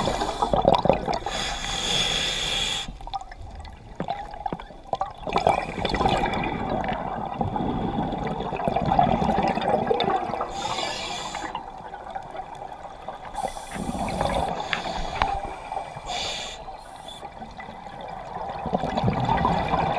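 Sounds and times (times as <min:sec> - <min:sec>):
regulator bubbles gurgling underwater: 0:00.0 - 0:01.8, 0:02.9 - 0:19.9.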